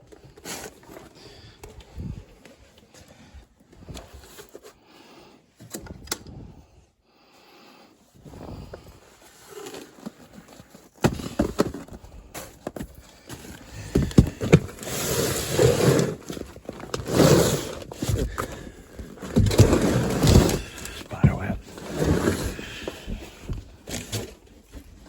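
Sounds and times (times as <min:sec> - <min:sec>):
rustling and scraping: 0:00.0 - 0:05.7, 0:07.5 - 0:25.0.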